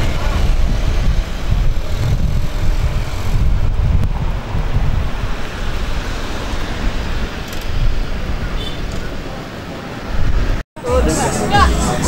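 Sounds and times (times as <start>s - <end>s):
wind rumbling on microphone: 0.0s - 9.4s, 10.0s - 10.6s
road traffic: 0.0s - 12.0s.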